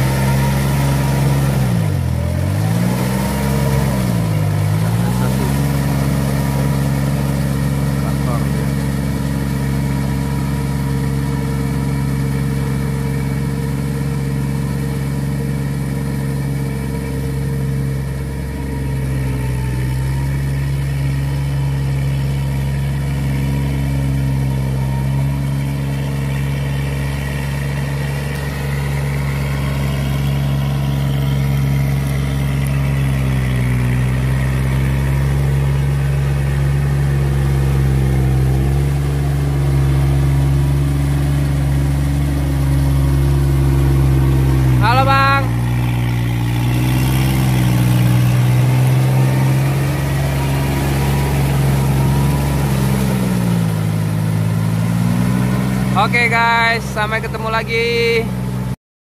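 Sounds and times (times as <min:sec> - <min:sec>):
tractor diesel engine running: 0:00.0 - 0:58.8.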